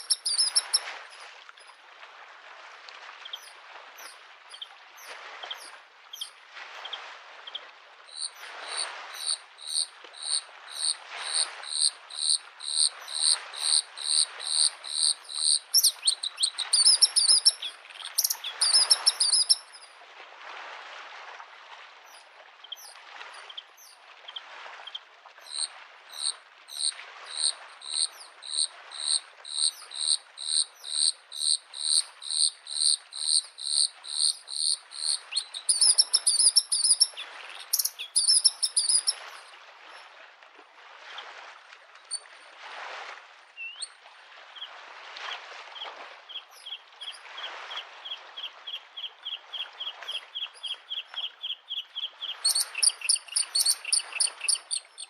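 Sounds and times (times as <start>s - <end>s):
small waves on lake shore: 0.0s - 55.0s.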